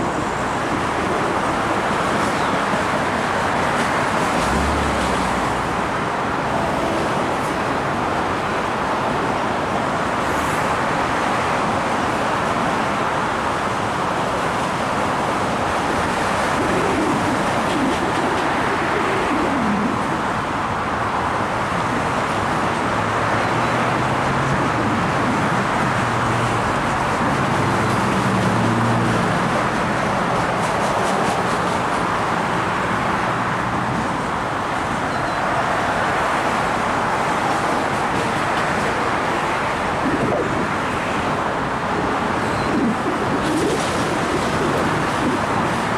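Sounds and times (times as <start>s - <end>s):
passing vehicles rumble: 0.0s - 45.9s.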